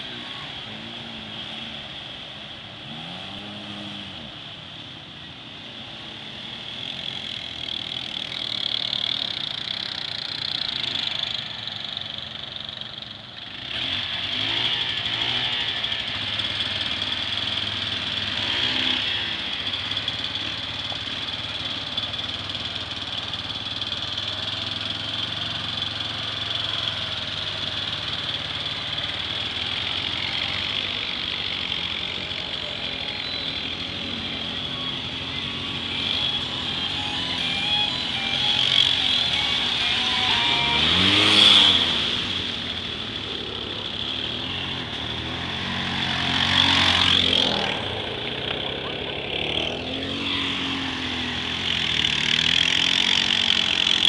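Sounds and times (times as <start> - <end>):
off-road vehicle engines revving: 0.0 - 54.0.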